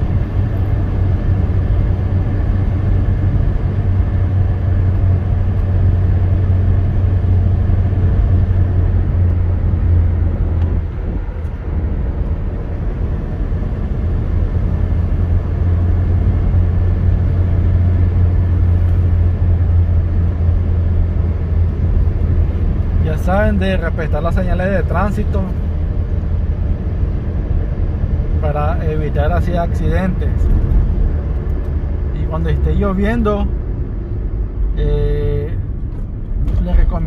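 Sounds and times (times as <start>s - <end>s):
car cabin road and engine rumble: 0.0s - 37.0s.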